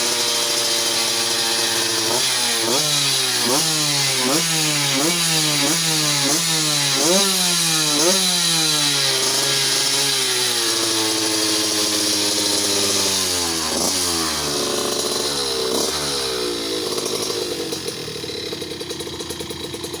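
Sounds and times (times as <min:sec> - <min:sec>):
two-stroke moped engine revving: 0:00.0 - 0:20.0.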